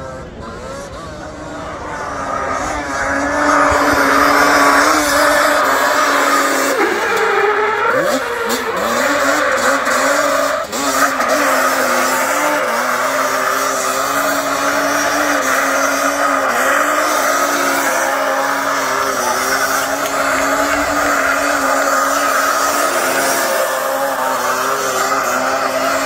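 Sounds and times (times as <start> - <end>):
quad bike engine revving: 0.0 - 26.0
tyres squealing on tarmac: 0.2 - 26.0.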